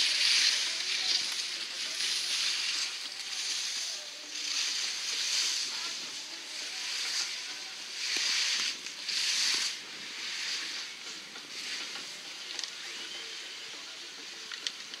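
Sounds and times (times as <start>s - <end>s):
skis scraping across snow: 0.0s - 13.8s.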